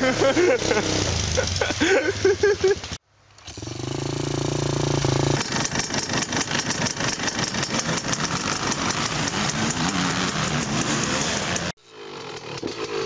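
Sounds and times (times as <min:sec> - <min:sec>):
off-road vehicle engine: 0:00.0 - 0:13.0.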